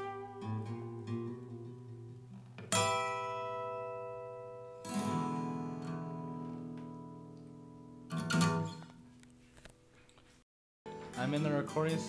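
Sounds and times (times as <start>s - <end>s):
acoustic guitar chords strummed: 0.0s - 9.2s, 10.9s - 12.0s.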